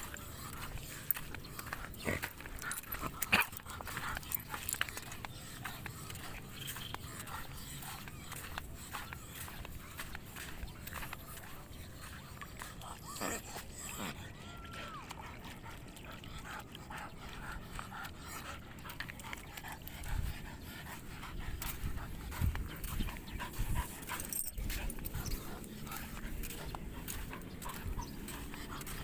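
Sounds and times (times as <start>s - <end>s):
dog panting: 0.0s - 29.0s.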